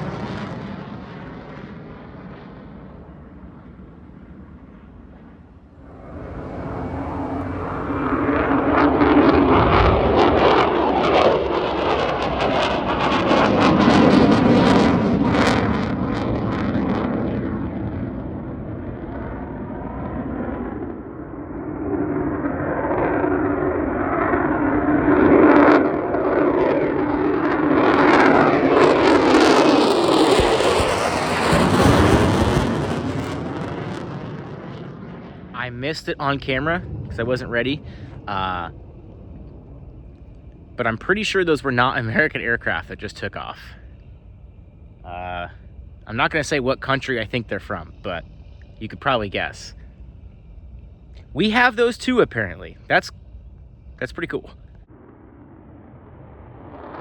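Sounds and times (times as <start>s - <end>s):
military jet taking off: 0.0s - 57.0s.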